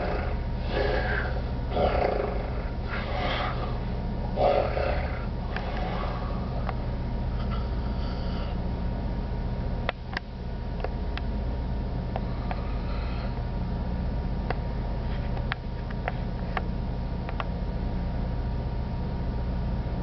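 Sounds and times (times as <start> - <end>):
thin whine: 0.0 - 16.6
low hums: 0.0 - 17.4
low machinery drone: 0.0 - 20.0.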